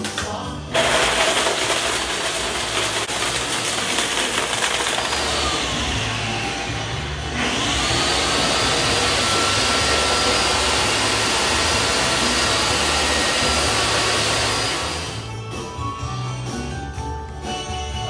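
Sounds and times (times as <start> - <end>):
blender crushing ice: 0.7 - 15.3.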